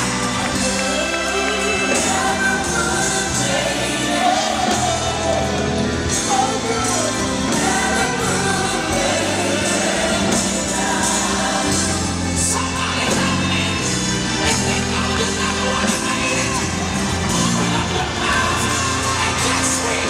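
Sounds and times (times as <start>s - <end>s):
gospel choir singing: 0.0s - 20.0s
steady bass: 0.0s - 20.0s.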